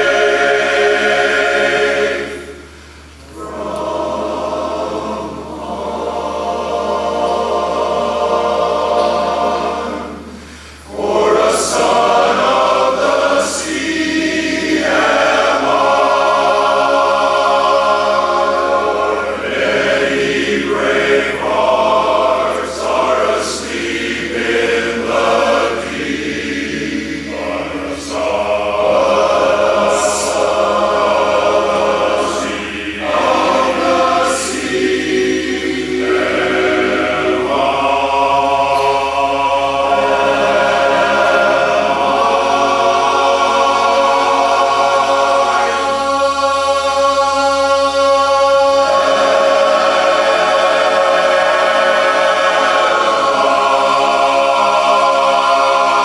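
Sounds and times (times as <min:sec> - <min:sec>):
a cappella chorus singing: 0:00.0 - 0:56.0.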